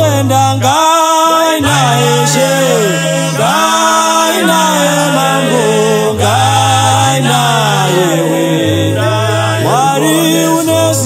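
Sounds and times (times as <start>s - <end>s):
voices singing gospel song: 0.0s - 11.0s.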